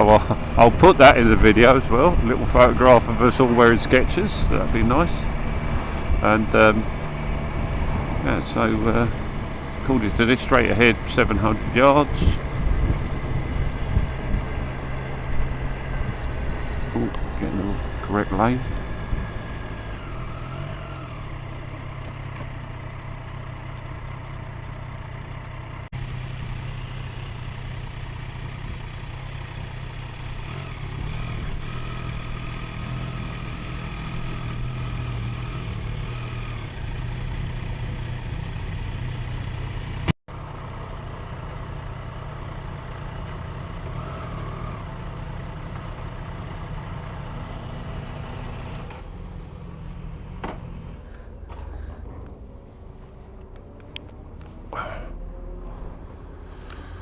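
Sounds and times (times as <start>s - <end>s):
motorcycle engine running at low revs: 0.0s - 55.0s.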